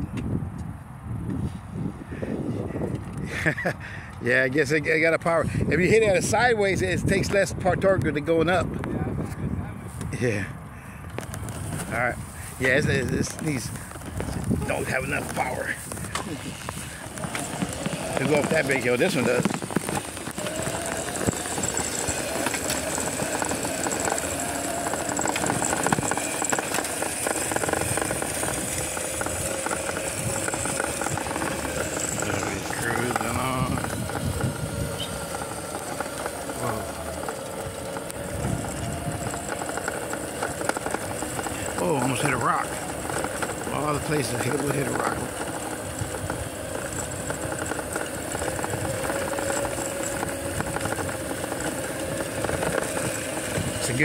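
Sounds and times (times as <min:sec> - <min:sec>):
wind noise on microphone: 0:00.0 - 0:54.0
electric motor whine: 0:10.0 - 0:54.0
motorbike frame rattling: 0:10.2 - 0:54.0.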